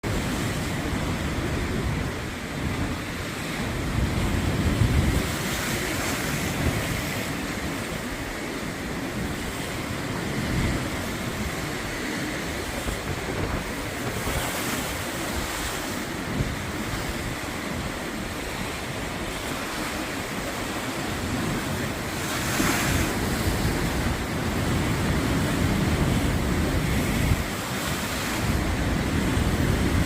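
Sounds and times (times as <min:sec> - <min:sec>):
sea waves breaking on shore: 0:00.0 - 0:30.0
wind buffeting microphone: 0:00.0 - 0:30.0.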